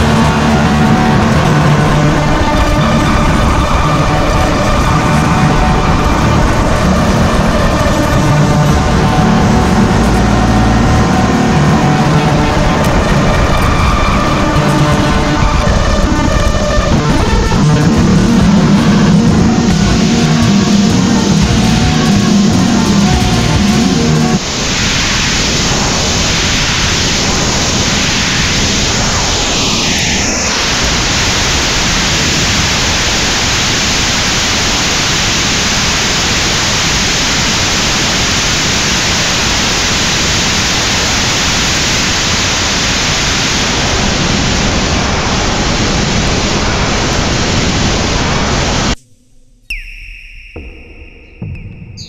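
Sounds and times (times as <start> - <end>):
gliding tone: 0.0 - 52.0
loud electronic noise: 0.0 - 52.0.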